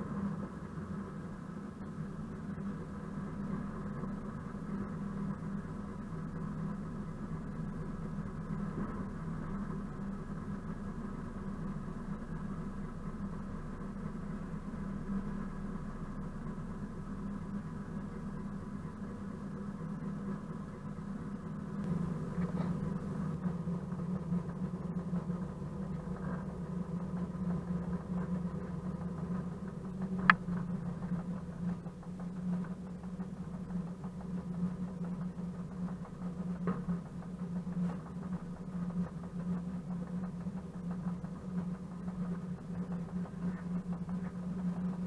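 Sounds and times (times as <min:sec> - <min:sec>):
diesel locomotive engine droning: 0:00.0 - 0:45.0.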